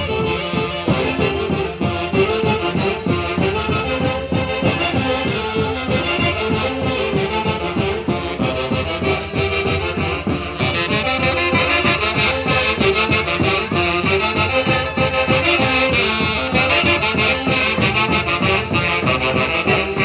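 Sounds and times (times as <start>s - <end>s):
band with saxophones and brass: 0.0s - 20.0s.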